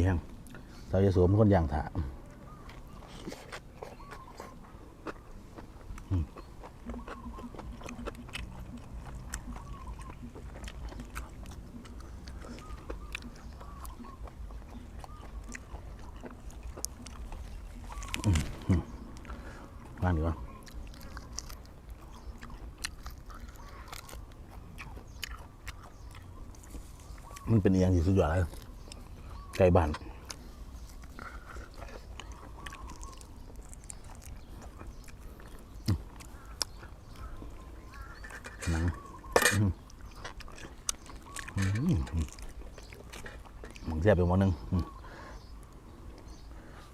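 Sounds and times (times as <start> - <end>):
person chewing food: 0.3 - 0.9, 2.1 - 44.0, 44.6 - 46.9.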